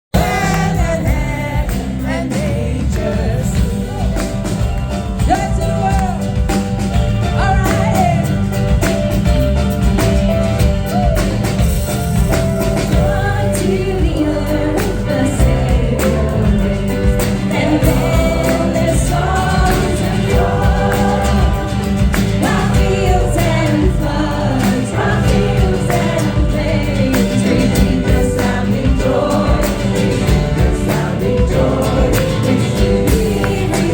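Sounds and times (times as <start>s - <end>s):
music with singing voices: 0.1s - 33.9s.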